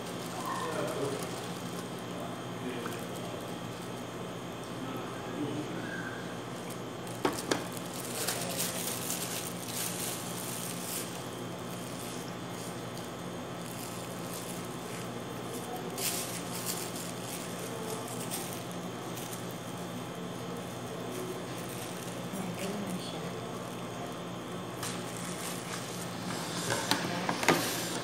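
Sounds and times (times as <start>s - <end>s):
plastic bag crinkling: 0.0s - 4.2s, 6.5s - 28.0s.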